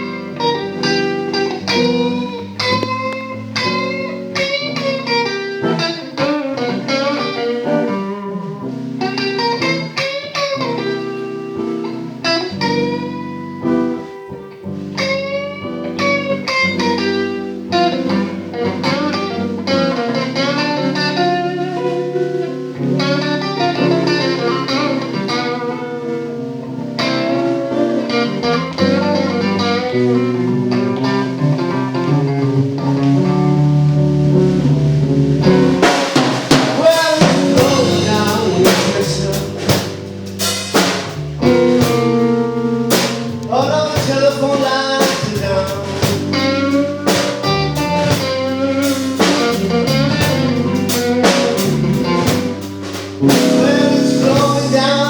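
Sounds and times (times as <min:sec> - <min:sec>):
drum kit: 0:00.0 - 0:55.0
electric guitar playing blues: 0:00.0 - 0:55.0.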